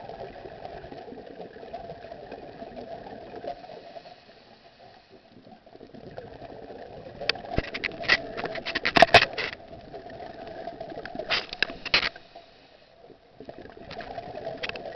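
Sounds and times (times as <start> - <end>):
exhaled bubbles rushing underwater: 0.0 - 8.4, 9.6 - 11.3, 13.0 - 14.9.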